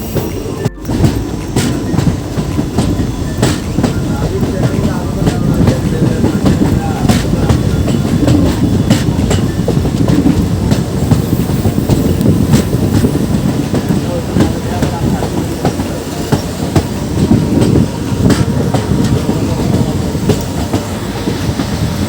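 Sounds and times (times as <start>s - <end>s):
train coaches rumbling: 0.0s - 22.0s
wheels clattering over rails: 0.0s - 22.0s.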